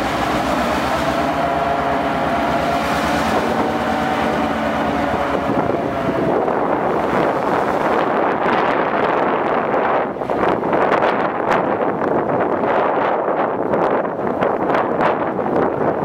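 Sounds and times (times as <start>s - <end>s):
locomotive engine rumbling: 0.0s - 13.0s
wind buffeting microphone: 0.0s - 16.0s.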